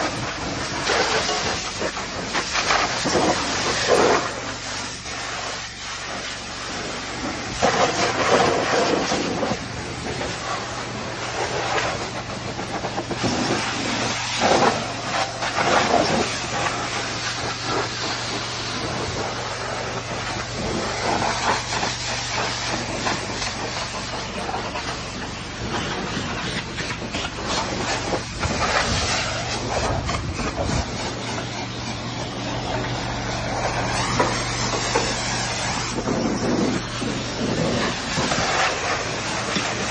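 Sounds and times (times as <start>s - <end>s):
low drone: 0.0s - 39.9s
low hum: 0.0s - 39.9s
pressure washer spraying: 0.0s - 39.9s.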